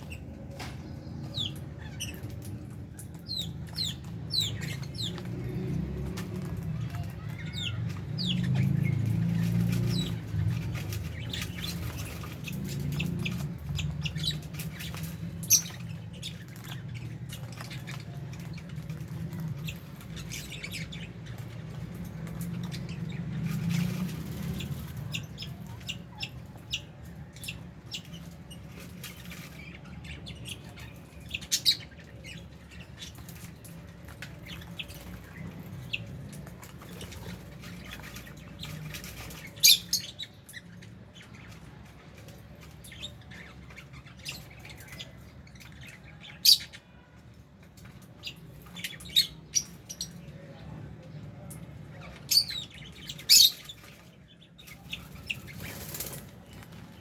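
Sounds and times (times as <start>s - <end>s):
lovebirds chirping and squawking: 0.0s - 57.0s.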